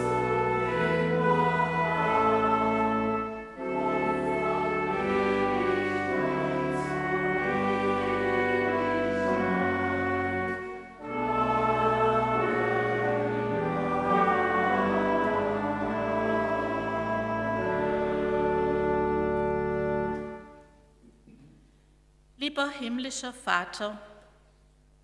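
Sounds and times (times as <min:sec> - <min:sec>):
organ playing sustained chords: 0:00.0 - 0:21.0.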